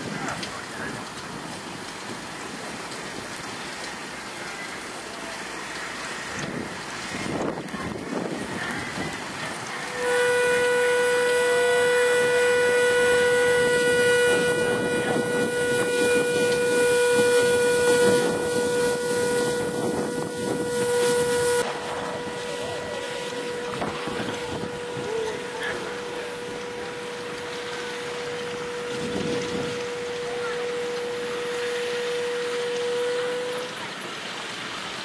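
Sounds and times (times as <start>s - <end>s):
steam hissing: 0.0s - 35.0s
steam whistle blast: 4.8s - 34.9s.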